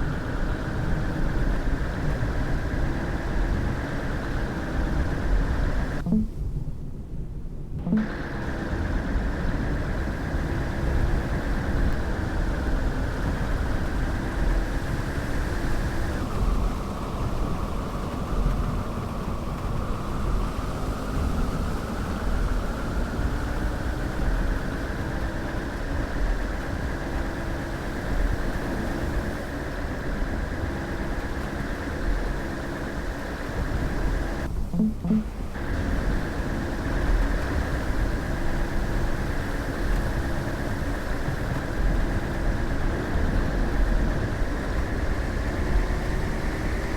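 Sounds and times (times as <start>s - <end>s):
road rumble: 0.0s - 46.9s
car engine: 7.8s - 46.9s.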